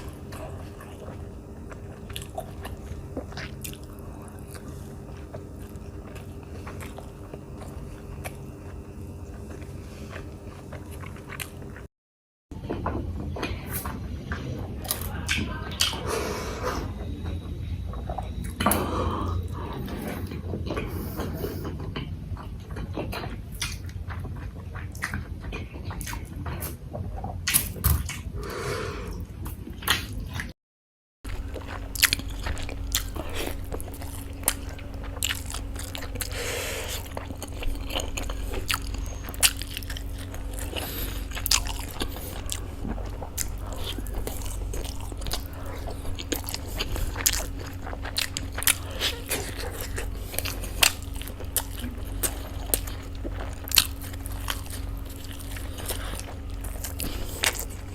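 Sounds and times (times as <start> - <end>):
biting and chewing food: 0.0 - 11.9, 17.1 - 30.5, 31.2 - 57.9
steady low hum: 0.0 - 11.9, 12.6 - 30.5, 31.2 - 57.9.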